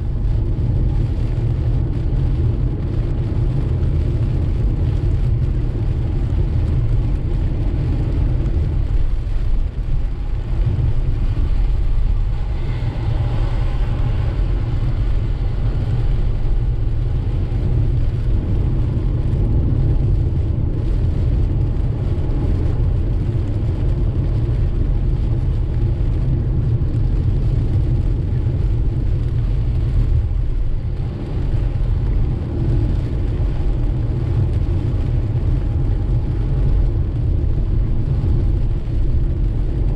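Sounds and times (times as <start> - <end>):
car road and engine rumble: 0.0 - 39.9
rain on car: 0.0 - 39.9
tyres hissing on wet road: 0.0 - 39.9.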